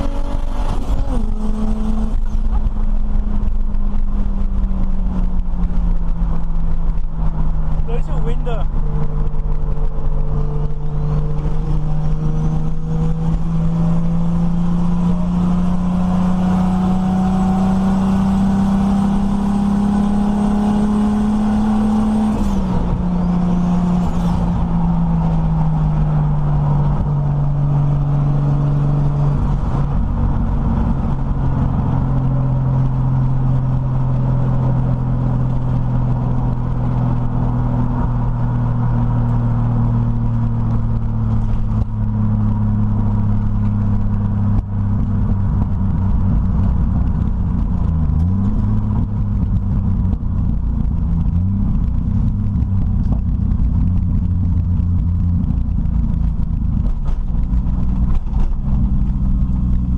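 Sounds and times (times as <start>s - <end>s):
car engine drone from cabin: 0.0s - 59.9s.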